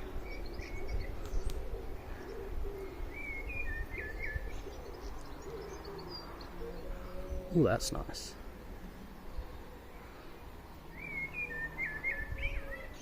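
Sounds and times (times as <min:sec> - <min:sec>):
bird cooing: 0:00.0 - 0:13.0
birds chirping: 0:00.0 - 0:13.0.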